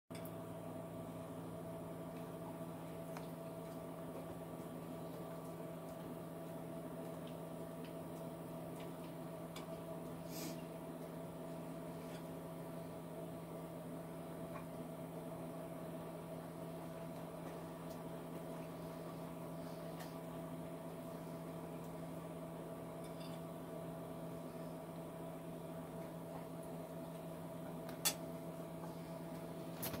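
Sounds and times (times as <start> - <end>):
low hum of fan: 0.1 - 30.0.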